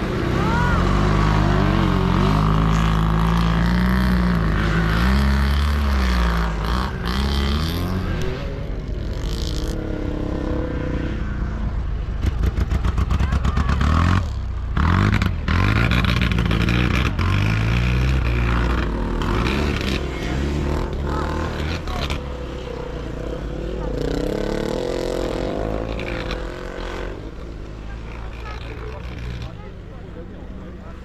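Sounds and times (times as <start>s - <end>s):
motorcycle engines revving and passing: 0.0s - 31.0s.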